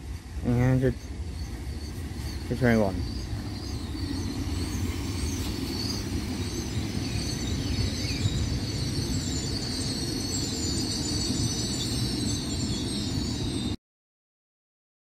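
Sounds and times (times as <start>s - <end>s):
train wheels rumbling on rail: 0.0s - 13.8s
thin high whine: 0.4s - 13.8s.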